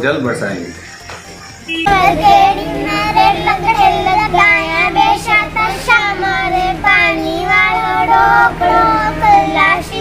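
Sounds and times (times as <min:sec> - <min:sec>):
girls singing together: 0:01.8 - 0:10.0
steady low hum: 0:01.8 - 0:10.0.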